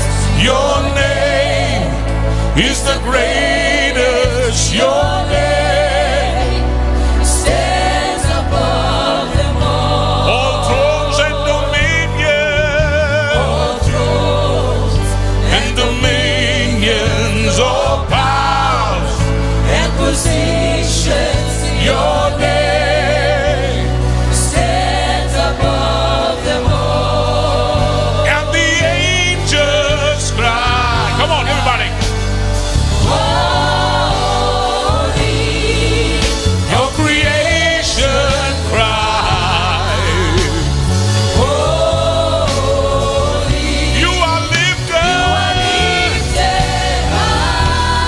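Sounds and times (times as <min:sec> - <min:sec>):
bass guitar: 0:00.0 - 0:48.0
choir singing with vibrato: 0:00.0 - 0:48.0.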